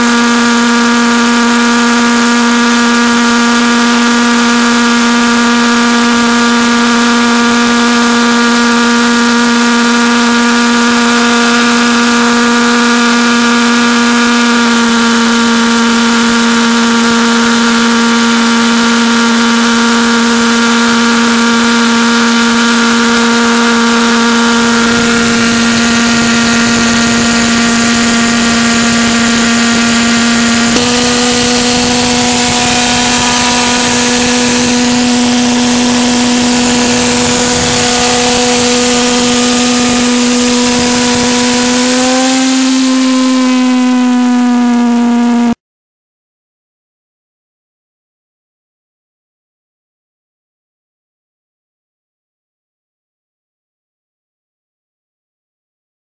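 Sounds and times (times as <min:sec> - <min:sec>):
pulsejet engine buzzing drone: 0:00.0 - 0:45.6.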